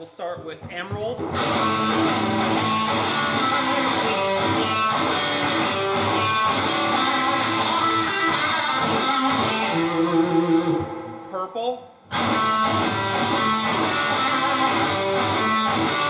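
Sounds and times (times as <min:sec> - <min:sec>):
overdriven electric guitar: 0:00.6 - 0:11.3, 0:12.1 - 0:16.0.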